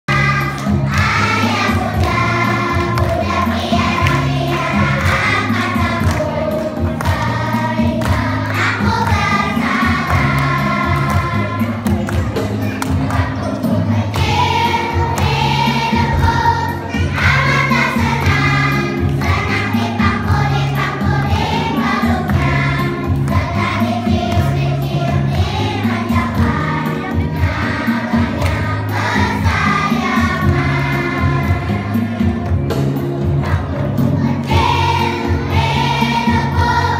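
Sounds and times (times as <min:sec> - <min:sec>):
children singing: 0:00.1 - 0:36.9.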